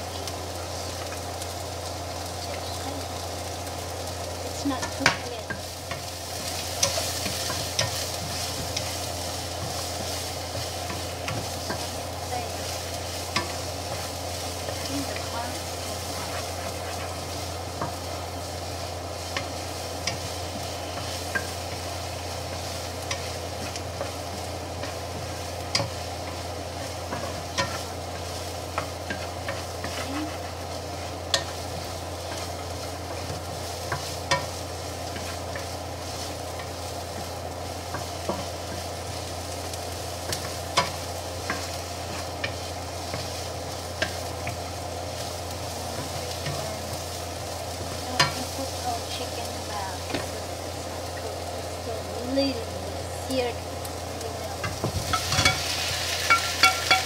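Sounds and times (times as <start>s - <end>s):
onions sizzling in a pan: 0.0s - 57.0s
steady low hum: 0.0s - 57.0s
wooden spatula tapping and scraping: 4.6s - 51.4s, 54.5s - 57.0s.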